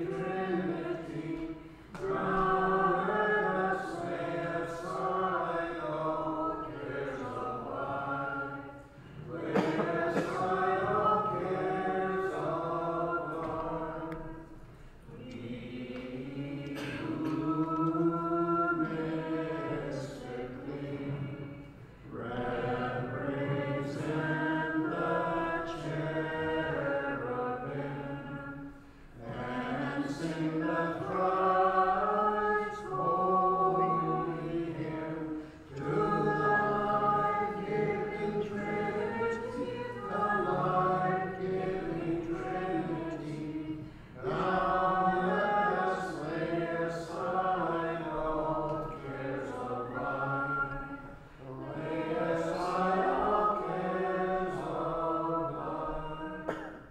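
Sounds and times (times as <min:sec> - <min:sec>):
unaccompanied liturgical chant: 0:00.0 - 0:56.9.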